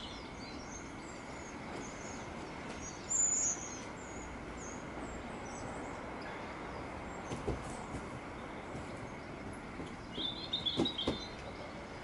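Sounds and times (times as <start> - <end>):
small birds chirping: 0.0 - 12.0
steady background hiss: 0.0 - 12.0.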